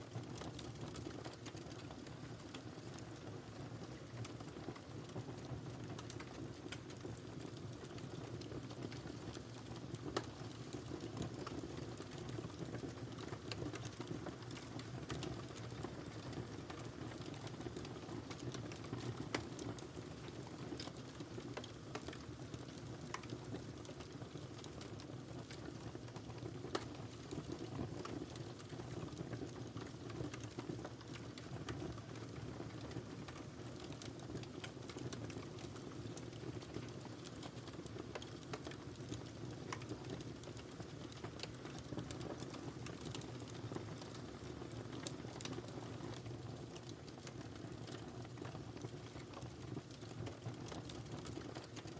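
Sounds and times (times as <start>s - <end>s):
wood fire crackling: 0.1s - 51.9s.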